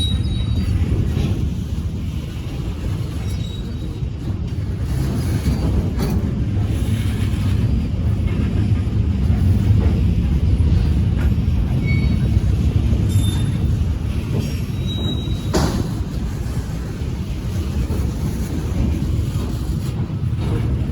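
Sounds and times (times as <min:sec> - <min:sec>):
freight train rumbling by: 0:00.0 - 0:20.9.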